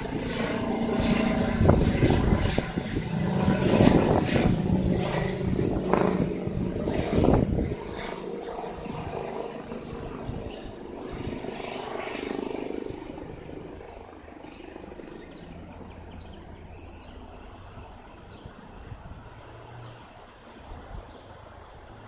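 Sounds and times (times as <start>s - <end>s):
helicopter rotor and turbine noise: 0.0s - 22.0s.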